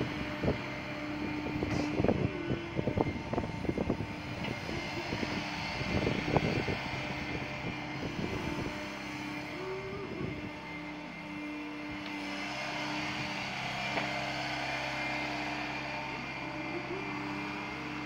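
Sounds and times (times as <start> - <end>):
excavator engine and hydraulics: 0.0 - 18.0.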